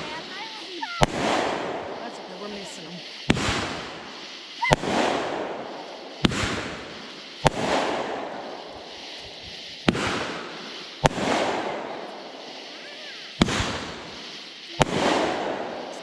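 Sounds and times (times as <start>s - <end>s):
fireworks bangs with crackling hiss: 0.0s - 16.0s.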